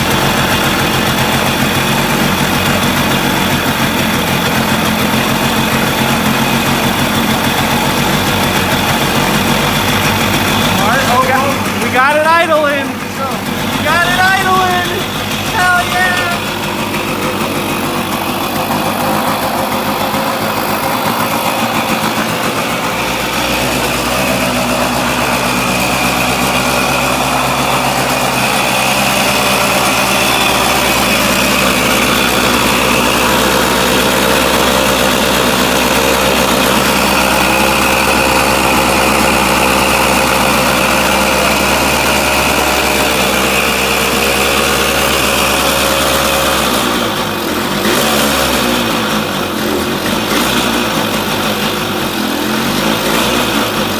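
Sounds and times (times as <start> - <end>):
two-stroke engine running: 0.0 - 53.9.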